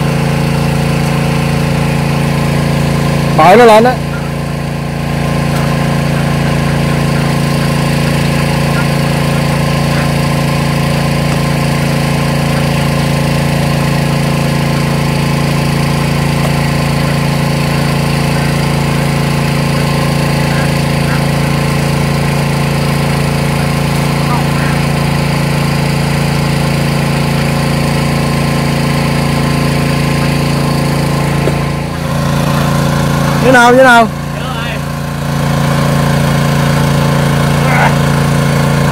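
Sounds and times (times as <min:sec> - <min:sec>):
engine-driven water pump running: 0:00.0 - 0:38.9.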